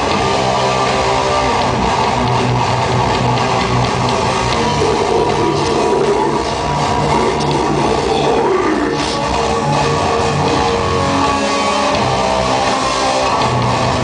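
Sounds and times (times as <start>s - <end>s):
electric guitar: 0.0s - 14.0s
low bass notes: 0.0s - 14.0s.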